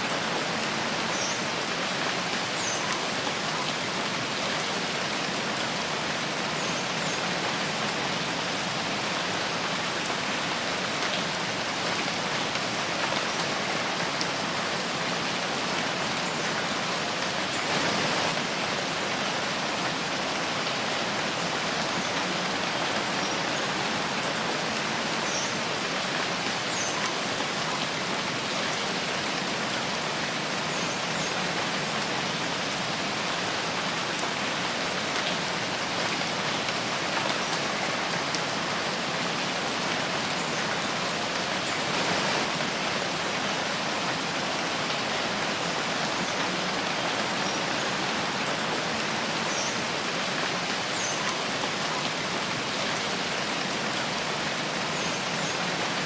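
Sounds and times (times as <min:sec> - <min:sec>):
rain on leaves: 0:00.0 - 0:56.0.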